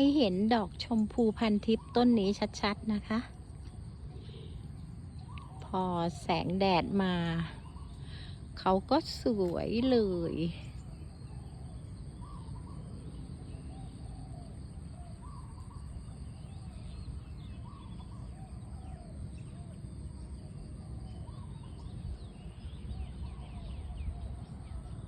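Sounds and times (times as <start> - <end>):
birds calling: 0.0 - 25.0
constant high whine: 0.0 - 25.0
low background rumble: 0.0 - 25.0.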